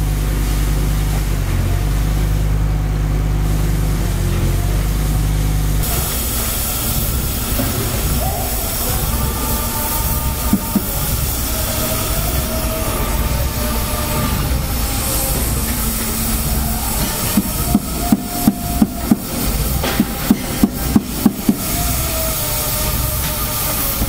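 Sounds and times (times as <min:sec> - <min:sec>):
cutting torch flame hissing: 0:03.4 - 0:24.0.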